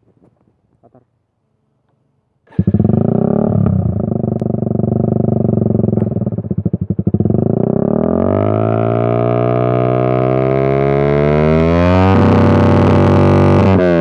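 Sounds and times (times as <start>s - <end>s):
motorcycle engine revving: 2.5s - 14.0s.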